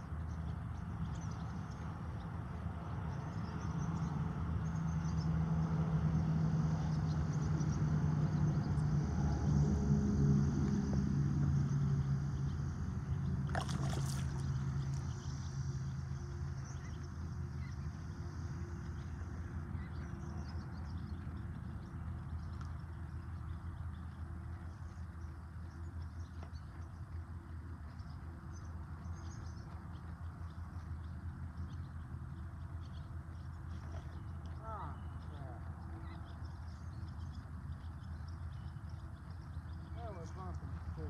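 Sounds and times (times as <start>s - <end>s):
distant engine droning: 0.0s - 41.0s.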